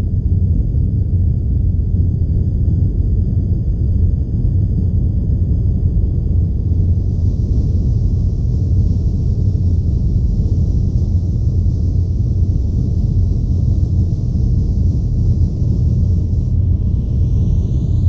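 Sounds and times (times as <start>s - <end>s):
low drone rumble: 0.0s - 18.0s.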